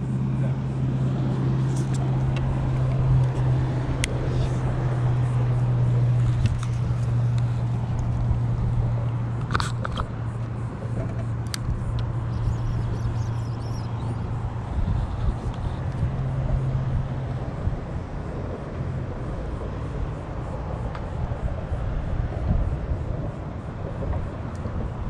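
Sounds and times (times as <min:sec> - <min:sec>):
traffic engine hum: 0:00.0 - 0:25.0.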